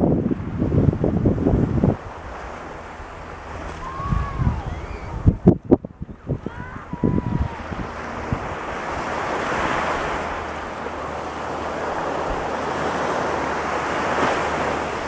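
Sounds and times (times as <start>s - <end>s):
ocean surf on a beach: 0.0s - 15.0s
wind buffeting the microphone: 0.0s - 15.0s.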